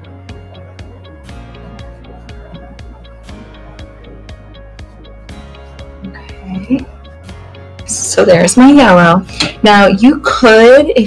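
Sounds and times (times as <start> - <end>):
background music with steady beat: 0.0 - 11.0
low bass notes: 0.0 - 11.0.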